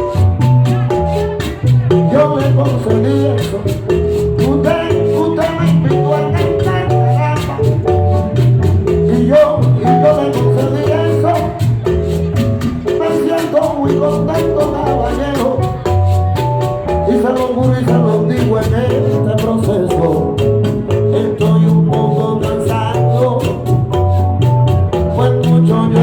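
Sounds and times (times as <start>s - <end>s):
salsa band playing: 0.0s - 26.0s.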